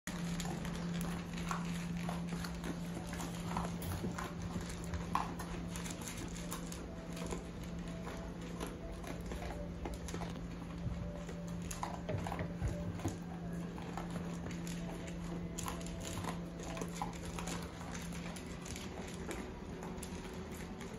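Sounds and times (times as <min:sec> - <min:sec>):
dogs crunching dry kibble: 0:00.1 - 0:20.9
low steady hum: 0:00.1 - 0:20.9.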